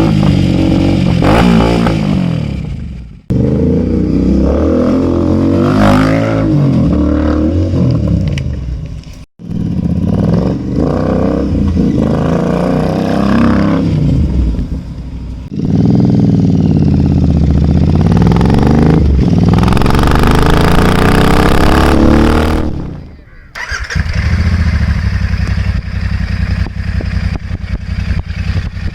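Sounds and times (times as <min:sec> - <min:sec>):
motorcycle engine revving: 0:00.0 - 0:08.8, 0:09.4 - 0:28.9.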